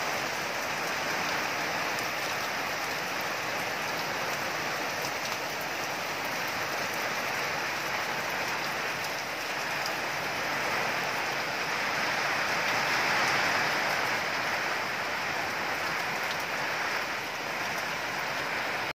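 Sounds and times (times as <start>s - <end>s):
rain on leaves: 0.0s - 18.9s.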